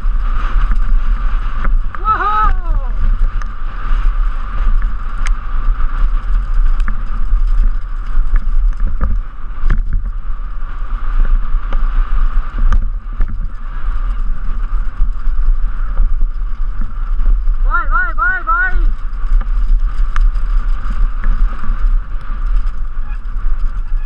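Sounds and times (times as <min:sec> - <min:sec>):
bike rattling clicks and knocks: 0:00.0 - 0:17.7, 0:18.8 - 0:24.0
wind buffeting microphone: 0:00.0 - 0:24.0.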